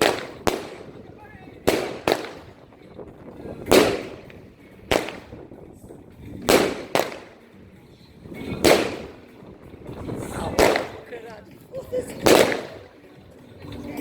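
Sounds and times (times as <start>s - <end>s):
firecrackers banging: 0.0s - 13.1s.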